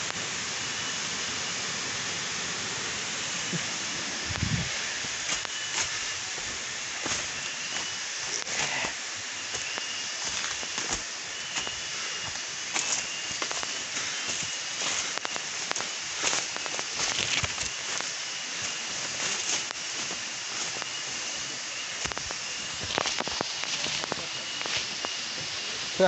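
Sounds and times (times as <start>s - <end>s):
steady hiss with high tone: 0.0s - 26.0s
leaves and twigs crackling: 3.2s - 25.3s
footsteps through dry leaves: 4.2s - 25.2s.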